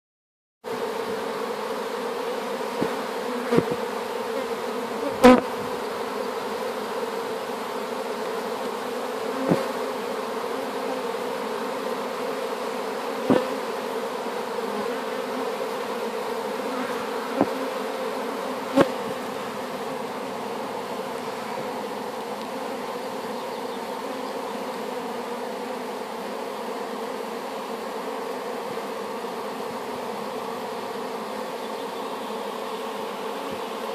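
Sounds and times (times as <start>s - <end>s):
bees humming: 0.7s - 33.9s.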